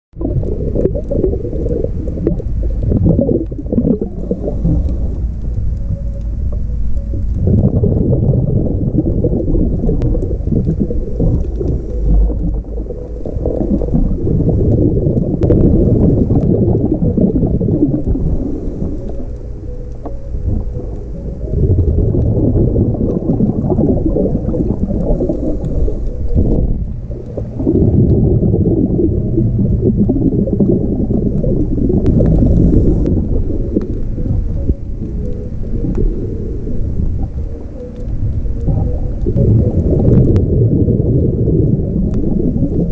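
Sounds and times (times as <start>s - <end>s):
underwater bubbling churning water: 0.1s - 42.9s
faint clicks: 0.2s - 28.2s, 29.1s - 40.5s, 41.2s - 42.9s.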